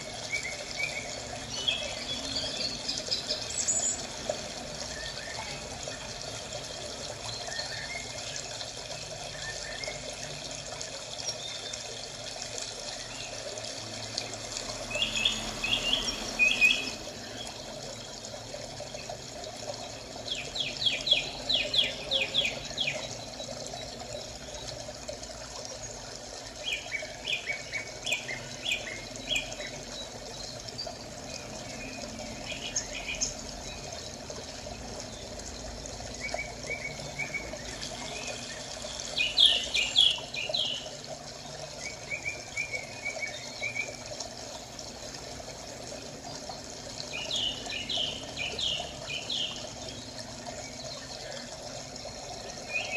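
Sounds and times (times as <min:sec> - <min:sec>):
trickle of running water: 0:00.0 - 0:52.9.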